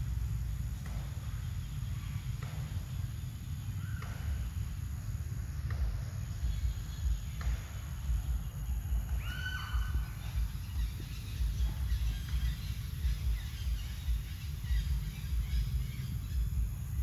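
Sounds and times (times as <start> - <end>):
low rumble: 0.0 - 17.0
faint bird chirps: 0.1 - 17.0.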